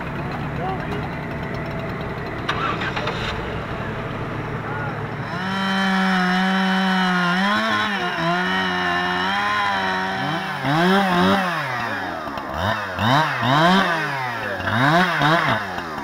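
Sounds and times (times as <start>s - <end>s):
chainsaw cutting and revving: 0.0s - 16.0s.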